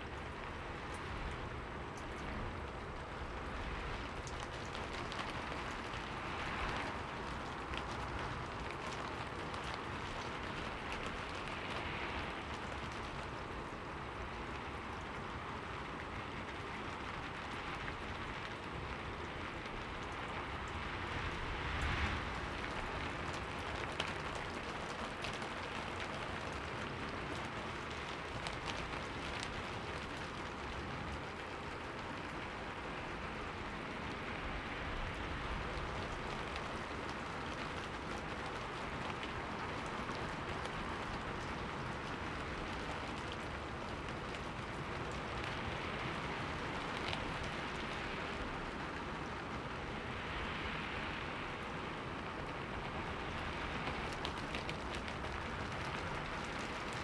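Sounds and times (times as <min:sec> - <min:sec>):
rain on a window pane: 0:00.0 - 0:57.0.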